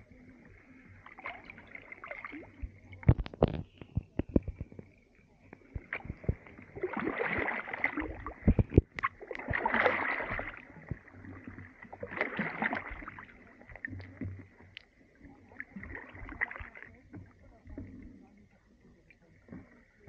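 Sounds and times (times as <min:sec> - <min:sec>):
kayak paddles splashing through slush: 0:00.0 - 0:20.0.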